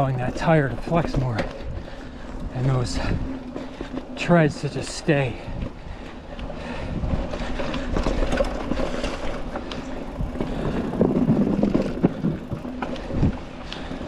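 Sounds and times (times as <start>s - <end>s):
bike chain and frame rattle: 0.0s - 14.0s
bike tyres rumbling on dirt: 0.0s - 14.0s.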